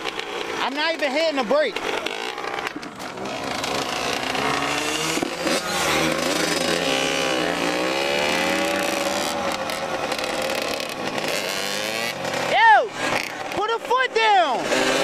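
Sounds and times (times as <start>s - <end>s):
small off-road engine running: 0.0s - 15.0s.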